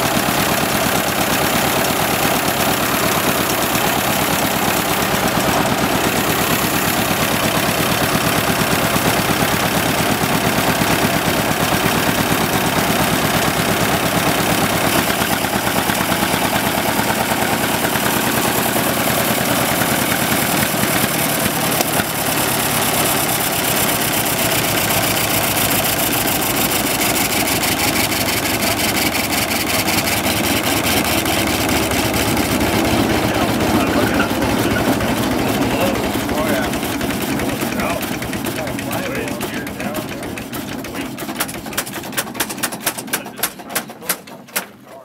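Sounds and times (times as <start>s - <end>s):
locomotive engine idling: 0.0s - 45.0s.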